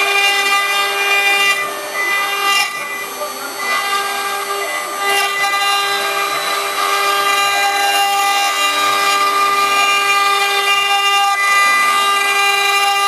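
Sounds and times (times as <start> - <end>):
cutter hissing on stone: 0.0 - 13.0
milling spindle whining: 0.0 - 13.0.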